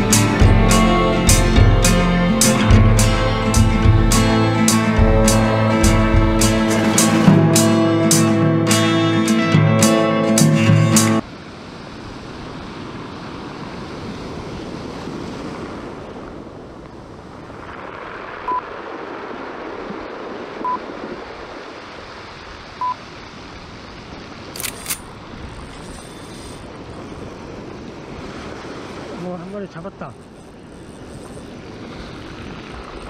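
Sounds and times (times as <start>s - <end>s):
ocean surf washing up beach: 0.0s - 33.0s.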